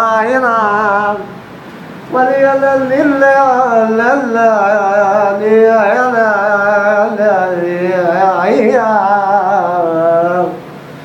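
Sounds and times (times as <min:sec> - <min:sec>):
man singing ornamented melody: 0:00.0 - 0:01.4, 0:02.1 - 0:10.8.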